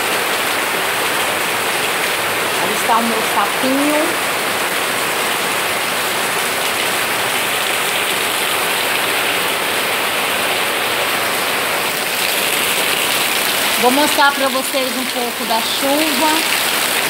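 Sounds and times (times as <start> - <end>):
rain falling on foliage: 0.0 - 17.0.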